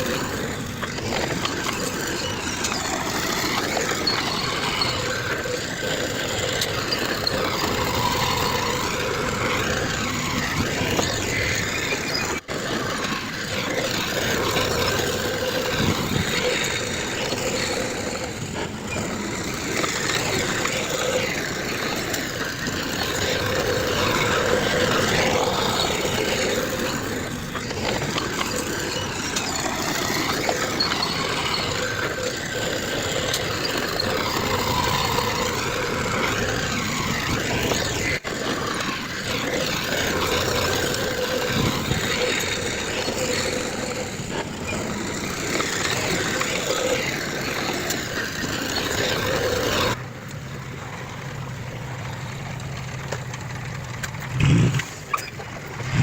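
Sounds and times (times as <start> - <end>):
diesel construction machinery working: 0.0 - 56.0.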